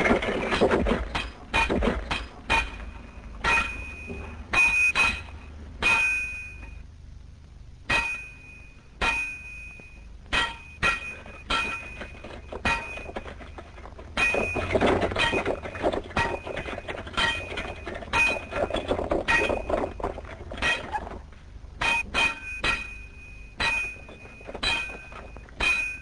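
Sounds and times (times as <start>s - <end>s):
rough rattling noise: 0.0s - 6.7s, 10.3s - 26.0s
hammers clanging on steel rods: 0.0s - 6.8s, 7.9s - 21.2s, 21.8s - 26.0s.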